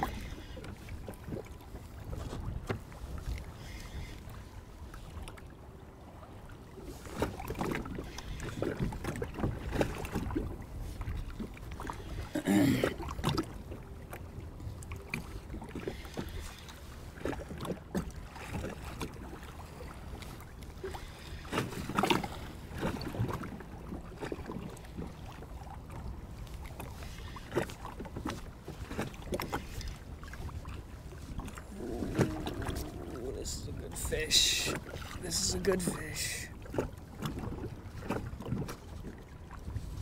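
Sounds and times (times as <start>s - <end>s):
water slapping kayak hull: 0.0s - 40.0s.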